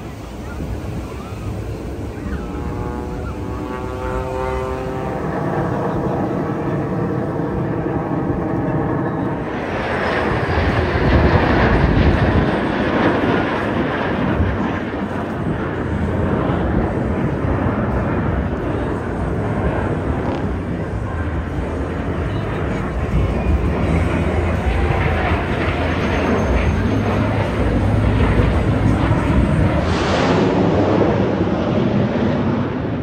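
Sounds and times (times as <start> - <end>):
jet engine whine: 0.0 - 33.0
jet roar overhead: 0.0 - 33.0.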